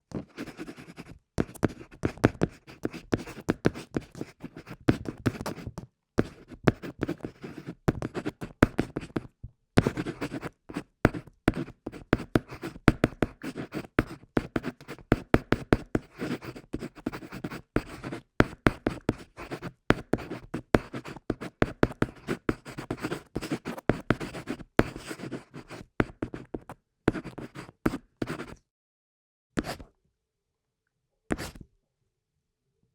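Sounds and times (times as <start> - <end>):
pencil scratching on paper: 0.2 - 28.6, 31.4 - 31.6.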